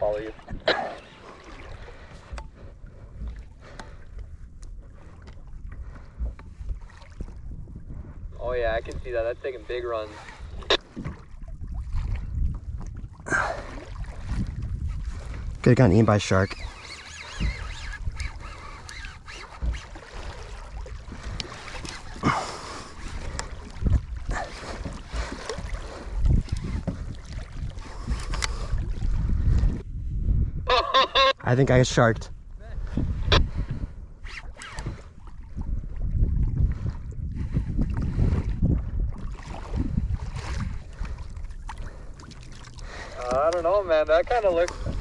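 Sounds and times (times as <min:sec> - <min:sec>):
water against kayak hull: 0:00.0 - 0:31.4, 0:32.3 - 0:45.0
wind buffeting microphone: 0:00.0 - 0:45.0.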